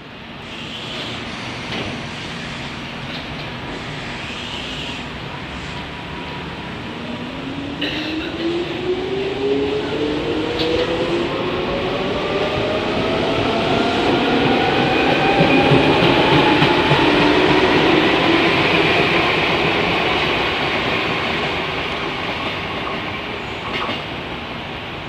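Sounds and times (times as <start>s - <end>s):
train wheels on rails: 0.4s - 25.0s.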